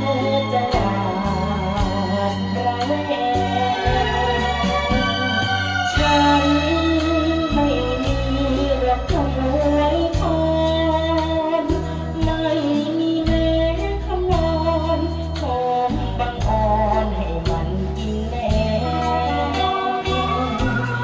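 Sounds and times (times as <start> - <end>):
backing music with bass line: 0.0 - 21.0
boy singing into a microphone: 0.0 - 21.0.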